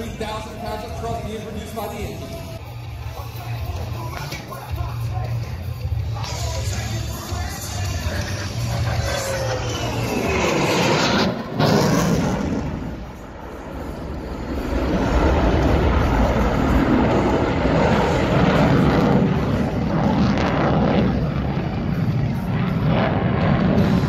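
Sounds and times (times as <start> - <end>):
fighter jet rumble overhead: 0.0 - 24.0.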